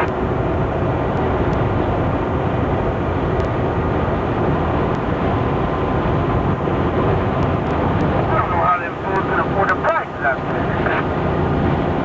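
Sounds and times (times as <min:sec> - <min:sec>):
truck engine drone: 0:00.0 - 0:12.0
wind noise: 0:00.0 - 0:12.0.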